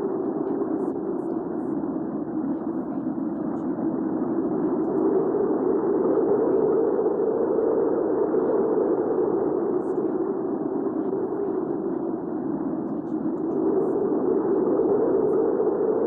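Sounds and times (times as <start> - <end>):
low rushing wind: 0.0 - 16.0.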